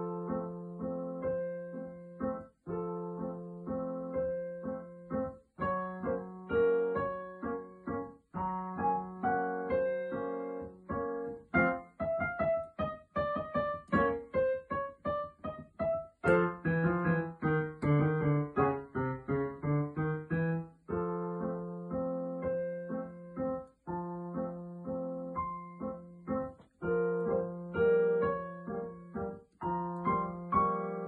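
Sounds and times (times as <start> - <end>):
digital piano playing: 0.0 - 31.0.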